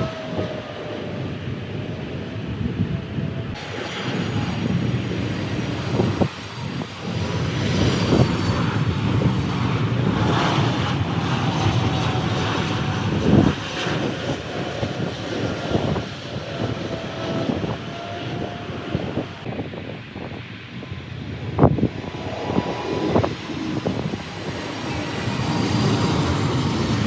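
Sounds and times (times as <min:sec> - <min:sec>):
jet airliner engines rumbling: 0:00.0 - 0:27.0.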